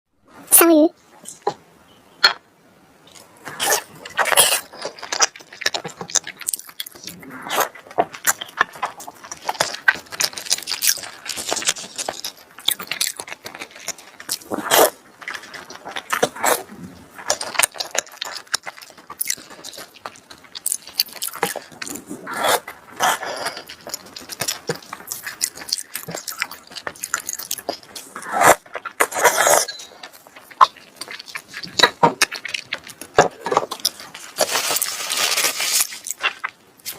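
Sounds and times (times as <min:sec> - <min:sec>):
clicks and crackles: 0:03.1 - 0:36.9
wet chewing and mouth smacking: 0:03.1 - 0:36.9.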